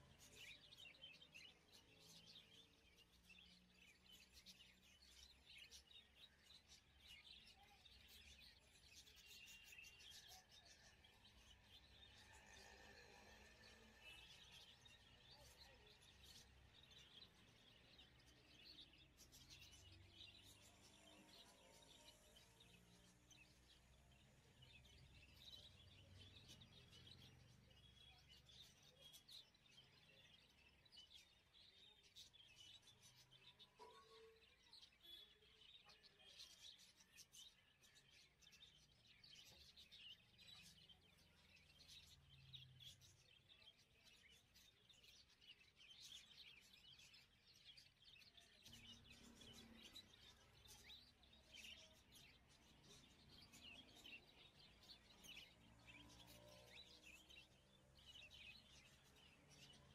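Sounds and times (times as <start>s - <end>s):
small birds chirping faintly: 0.0s - 59.9s.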